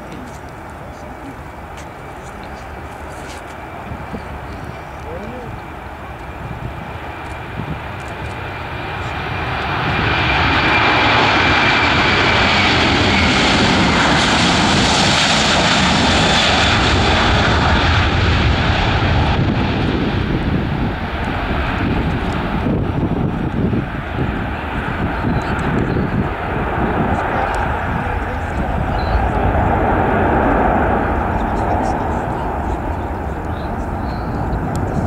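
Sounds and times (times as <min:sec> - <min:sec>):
jet airliner taking off: 0:00.0 - 0:35.0.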